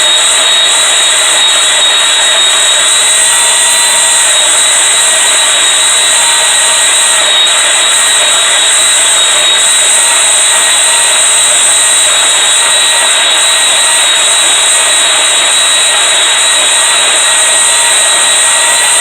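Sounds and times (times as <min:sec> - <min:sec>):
power saw whining through steel: 0:00.0 - 0:19.0.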